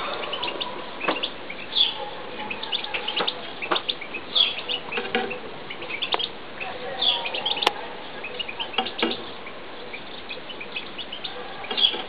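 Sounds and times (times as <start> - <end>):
birds chirping: 0.0 - 12.0
loud bird calls: 0.0 - 12.0.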